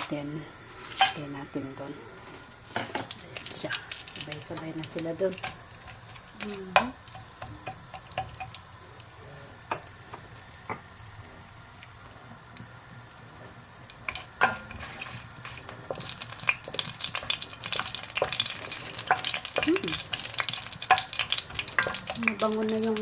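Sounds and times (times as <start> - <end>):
spices frying in hot oil: 0.0 - 23.0.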